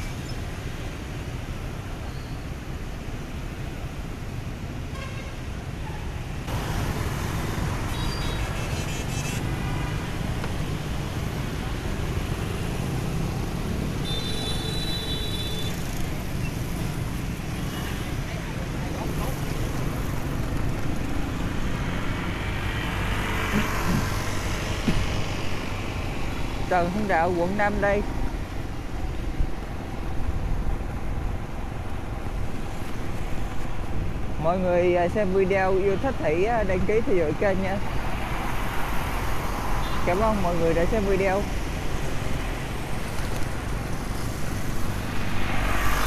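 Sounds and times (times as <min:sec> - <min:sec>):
scooters and cars passing: 0:05.6 - 0:46.0.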